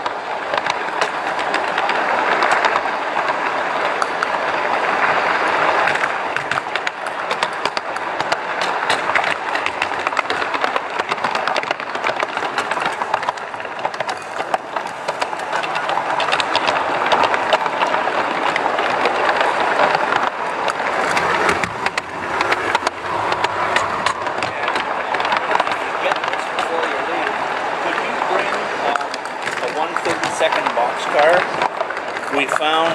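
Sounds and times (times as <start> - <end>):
model train rattling on track: 0.0 - 32.9.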